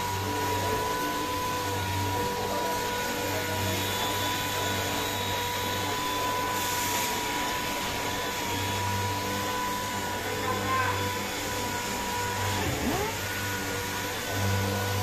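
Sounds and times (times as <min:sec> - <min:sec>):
orbital sander whining: 0:00.0 - 0:15.0.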